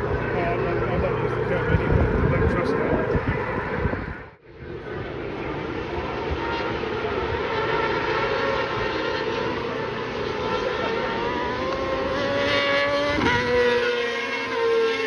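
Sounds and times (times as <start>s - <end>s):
motorcycle engines revving high: 0.0s - 15.0s.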